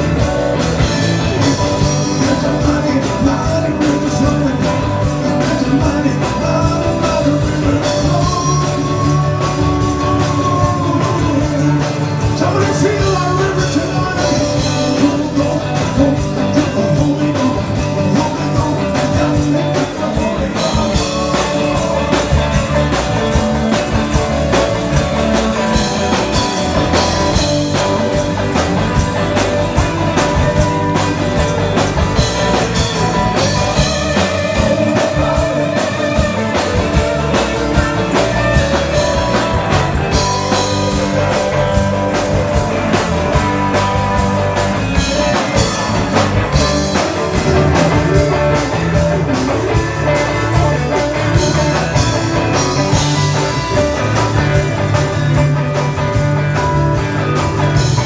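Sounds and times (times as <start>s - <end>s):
drum kit steady beat: 0.0s - 58.0s
electric guitars: 0.0s - 58.0s.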